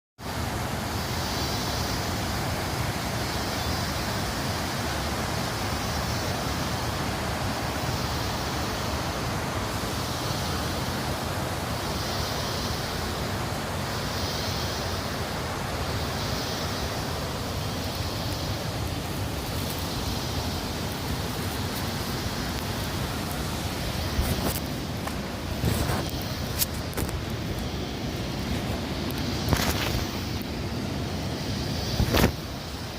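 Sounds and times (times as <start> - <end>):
steady outdoor rushing noise: 0.2 - 32.9.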